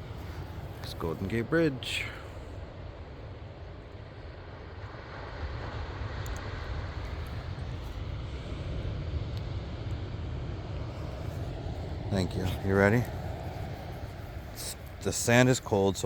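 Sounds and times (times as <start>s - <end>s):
wind buffeting microphone: 2.6s - 16.0s.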